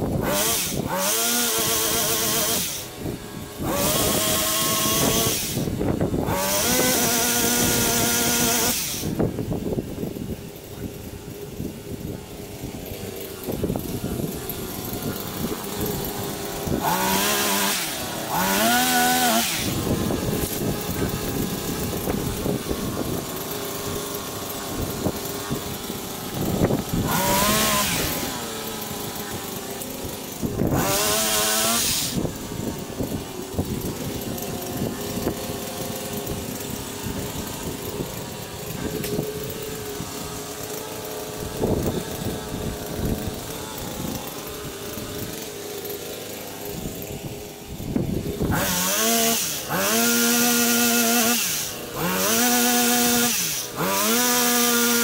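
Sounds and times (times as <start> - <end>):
pole chainsaw revving: 0.0 - 55.0.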